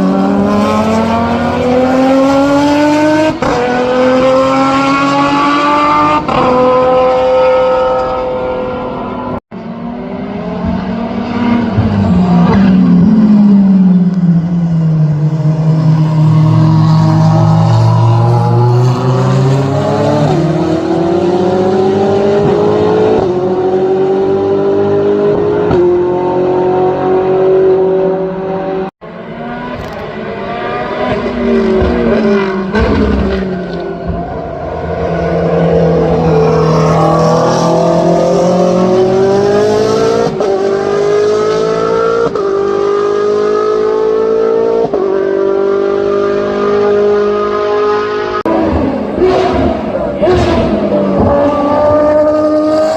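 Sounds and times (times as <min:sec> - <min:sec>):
racing car engine accelerating: 0:00.0 - 0:52.9.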